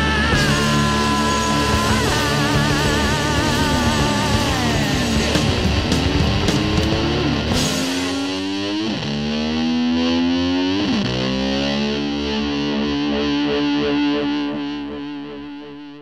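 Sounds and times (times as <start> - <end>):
distorted electric guitar ringing: 0.0 - 16.0.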